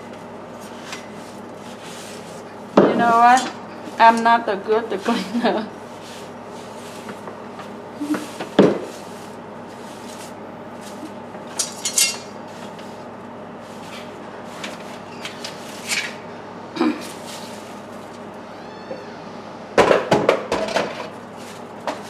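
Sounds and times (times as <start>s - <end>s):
faint hum: 0.0s - 20.2s.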